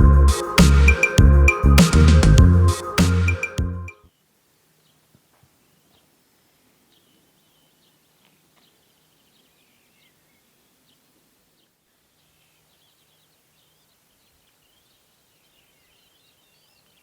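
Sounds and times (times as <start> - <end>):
faint birdsong chirps and trills: 2.6 - 17.0.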